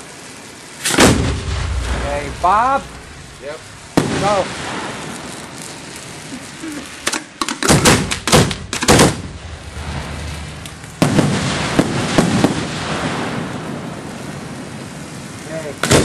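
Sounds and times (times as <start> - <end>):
firework bangs: 0.0 - 16.0
firework hissing rush with cracks: 0.0 - 16.0.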